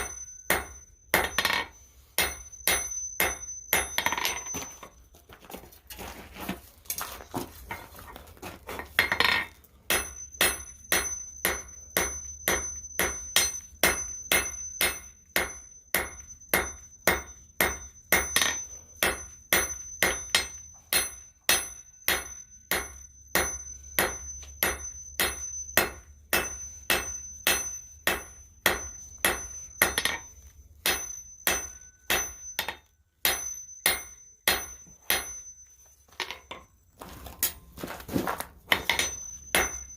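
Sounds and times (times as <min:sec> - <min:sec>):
anvil ringing: 0:00.0 - 0:05.0, 0:08.9 - 0:36.8, 0:38.7 - 0:39.9
hammer striking steel on anvil: 0:00.0 - 0:05.0, 0:08.8 - 0:36.7, 0:38.7 - 0:39.9.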